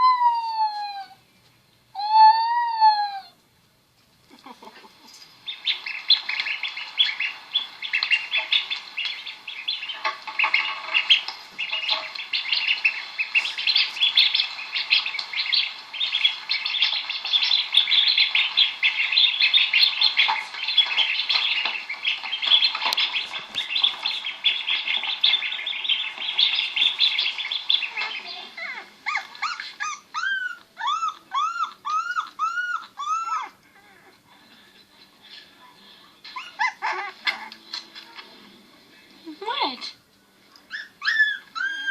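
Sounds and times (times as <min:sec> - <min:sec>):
small birds chirping: 0:04.3 - 0:38.4.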